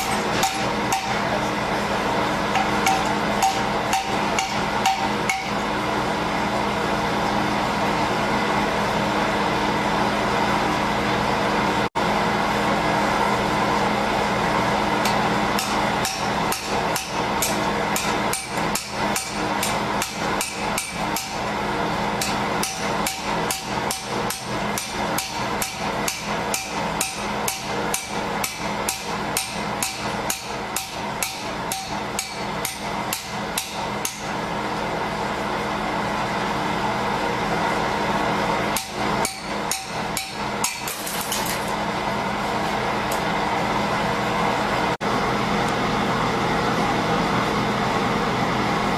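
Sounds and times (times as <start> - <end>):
steady hum: 0.0 - 48.9.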